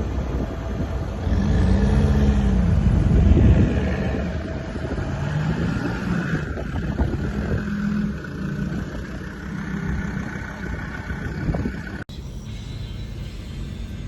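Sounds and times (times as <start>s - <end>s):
engine running under load: 0.0s - 14.0s.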